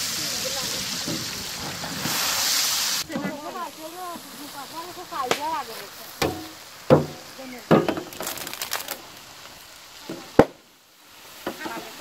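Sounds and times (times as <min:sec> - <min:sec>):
onions sizzling in a metal pan: 0:00.0 - 0:12.0.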